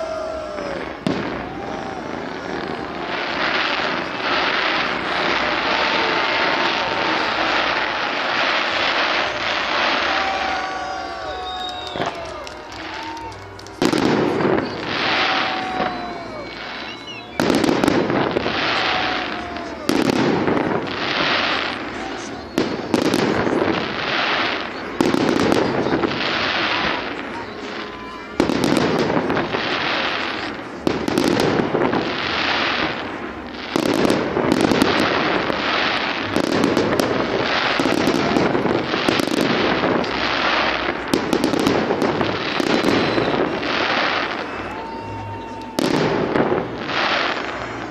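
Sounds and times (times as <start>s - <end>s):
firework stars crackling: 0.0s - 47.9s.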